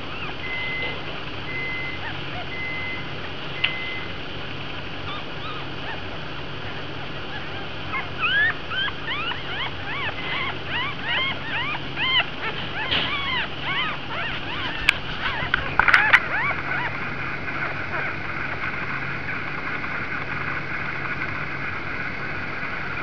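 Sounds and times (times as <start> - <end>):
puppies squeaking and whimpering: 0.0 - 4.1, 4.8 - 21.2
faint steady hum: 0.0 - 23.0.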